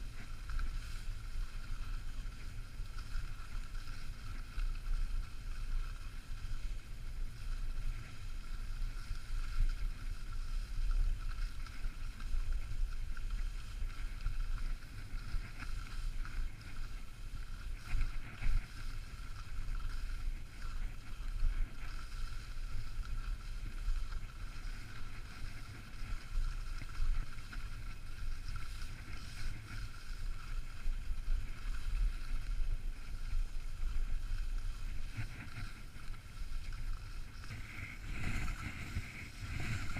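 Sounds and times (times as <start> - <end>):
steady hiss: 0.0 - 39.9
wind buffeting microphone: 0.0 - 39.9.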